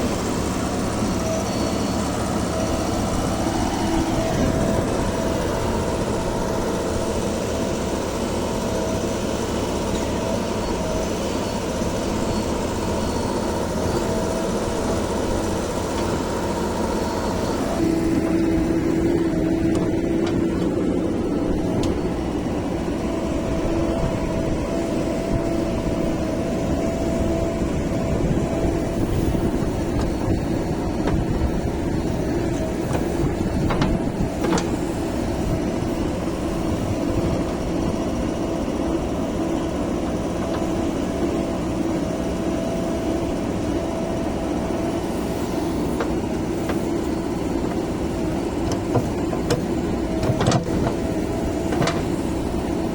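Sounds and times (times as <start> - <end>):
heavy machinery diesel engines: 0.0 - 52.9.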